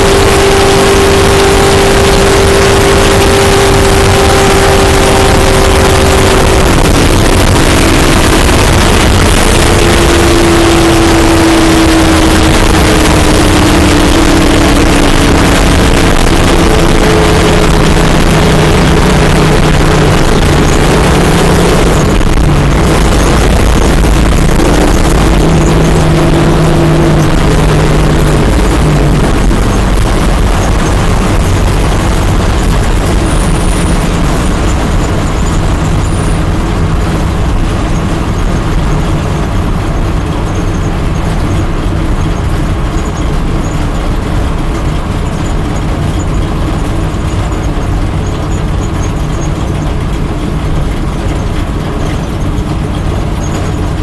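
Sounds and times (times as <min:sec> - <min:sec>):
race car engine running hard: 0:00.0 - 0:54.0
road and wind noise: 0:00.0 - 0:54.0.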